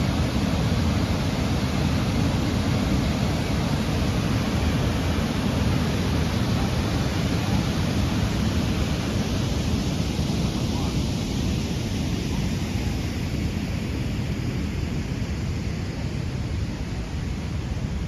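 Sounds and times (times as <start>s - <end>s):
floodwater rushing through spillway: 0.0s - 18.0s.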